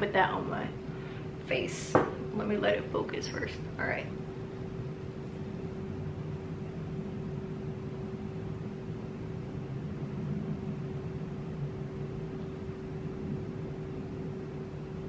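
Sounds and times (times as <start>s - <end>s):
mechanical hum with pitched tone: 0.0s - 15.0s.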